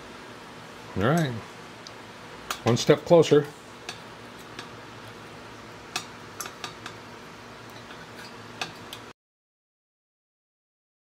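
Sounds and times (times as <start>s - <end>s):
faint steady hum: 0.0s - 9.1s.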